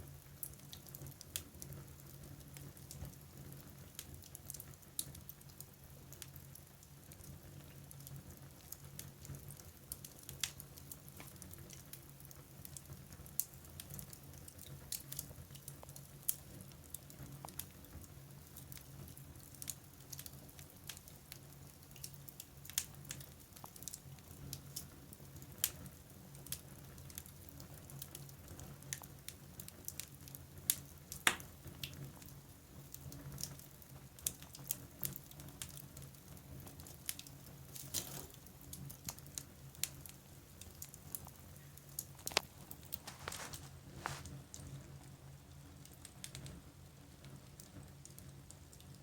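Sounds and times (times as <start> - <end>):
fire crackling in fireplace: 0.0 - 49.0.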